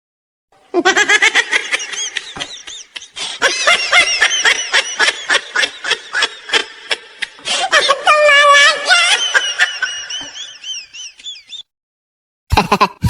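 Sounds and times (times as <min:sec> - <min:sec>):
high-pitched laughter: 0:00.7 - 0:11.7, 0:12.5 - 0:13.0.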